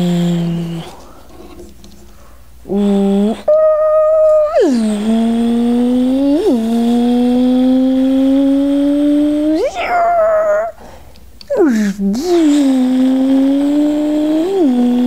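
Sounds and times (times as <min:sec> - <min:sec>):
person imitating motorcycle engine: 0:00.0 - 0:01.0, 0:02.6 - 0:15.0.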